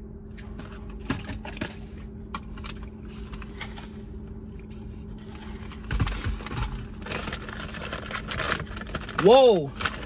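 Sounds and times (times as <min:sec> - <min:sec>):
food packaging rustling: 0:00.4 - 0:10.0.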